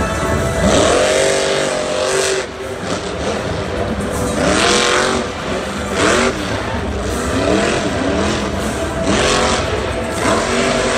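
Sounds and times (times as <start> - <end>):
truck engine revving hard: 0.2 - 10.9.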